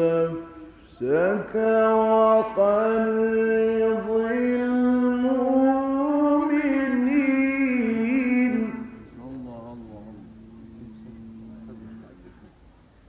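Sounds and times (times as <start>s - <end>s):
man reciting melodically: 0.0s - 12.6s.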